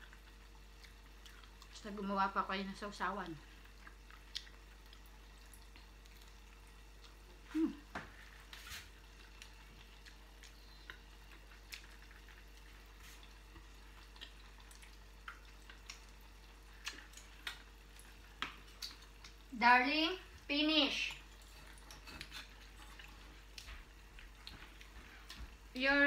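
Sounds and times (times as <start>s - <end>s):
chewing crispy food: 0.0s - 26.0s
faint steady hum: 0.0s - 26.0s.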